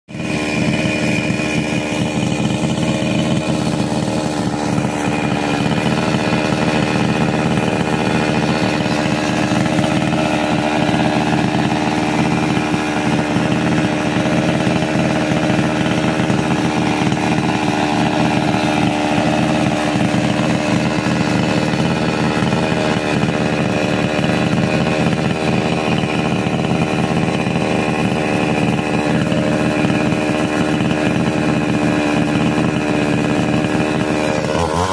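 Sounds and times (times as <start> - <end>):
chainsaw running: 0.1 - 34.9.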